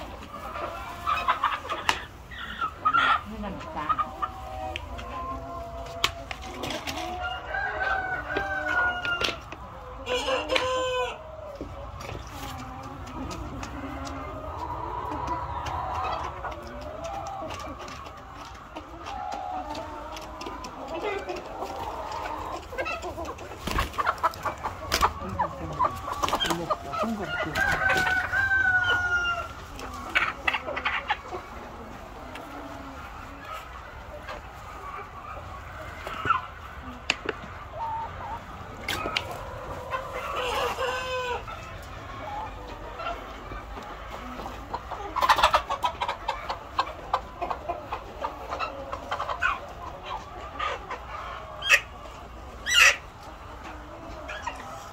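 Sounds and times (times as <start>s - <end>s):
drawn-out chicken call: 0.0s - 54.9s
hens clucking: 0.0s - 54.9s.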